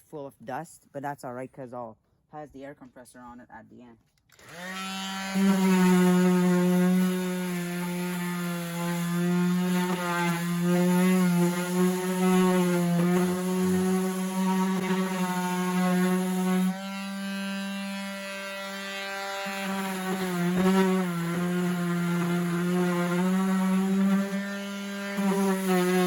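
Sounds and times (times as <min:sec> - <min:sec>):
orbital sander sanding wood: 0:04.4 - 0:26.0.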